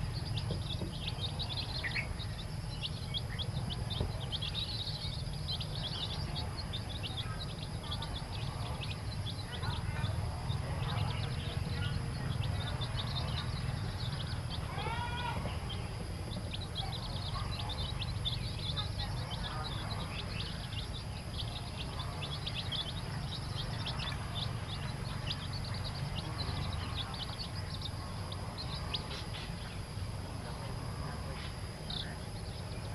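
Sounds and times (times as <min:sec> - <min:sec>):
chicks peeping: 0:00.0 - 0:32.9
steady low hum: 0:00.0 - 0:32.9.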